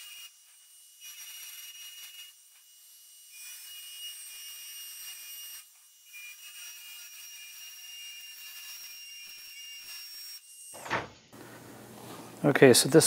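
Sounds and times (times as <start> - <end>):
rotary tool grinding metal: 0.0 - 10.8.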